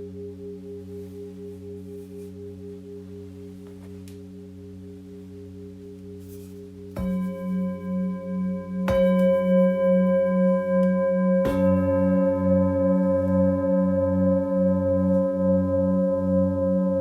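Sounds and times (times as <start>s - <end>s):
singing bowls ringing: 0.0s - 17.0s.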